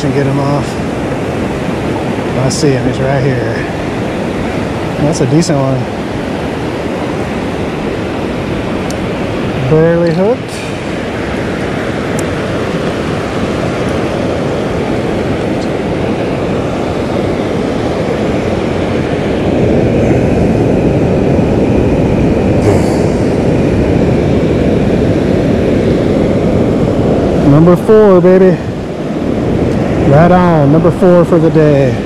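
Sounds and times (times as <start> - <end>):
surf washing in shallows: 0.0 - 32.0
wind on microphone: 0.0 - 32.0.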